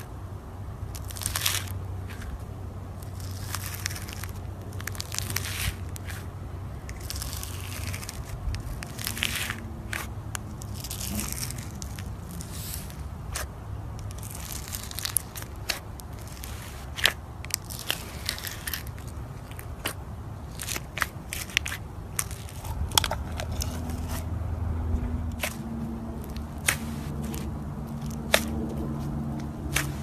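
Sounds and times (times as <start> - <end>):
low steady hum: 0.0 - 30.0
slime crackling and popping: 0.9 - 2.3, 3.0 - 6.2, 6.9 - 24.2, 26.2 - 28.8, 29.4 - 30.0.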